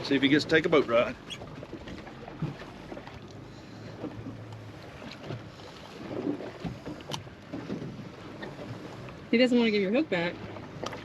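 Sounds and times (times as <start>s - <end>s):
water noise: 0.0s - 11.0s
wind: 0.0s - 11.0s.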